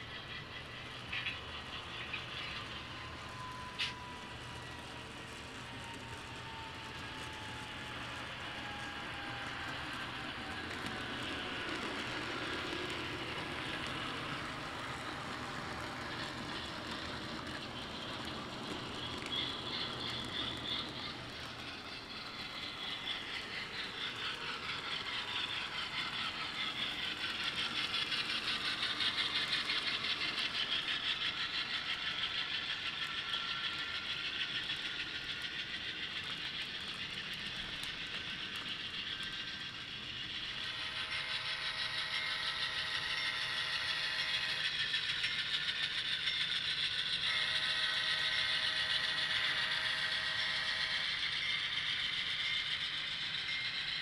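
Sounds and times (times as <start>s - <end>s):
model train motor whirring: 0.0s - 54.0s
wheels clicking on rails: 0.0s - 54.0s.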